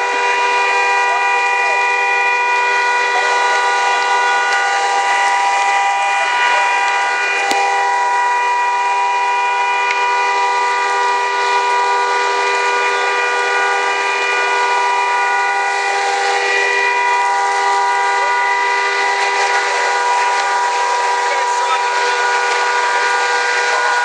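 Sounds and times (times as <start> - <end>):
fire engine pumps whining: 0.0 - 24.0.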